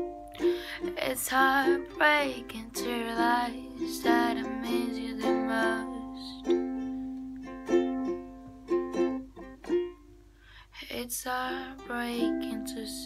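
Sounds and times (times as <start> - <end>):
ukulele strummed: 0.0 - 10.4, 11.5 - 13.0.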